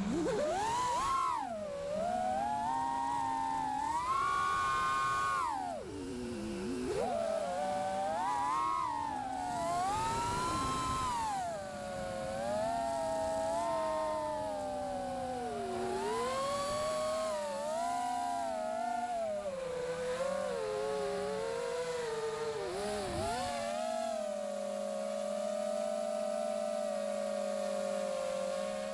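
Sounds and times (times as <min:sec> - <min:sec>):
drone motors and propellers whining: 0:00.0 - 0:28.9.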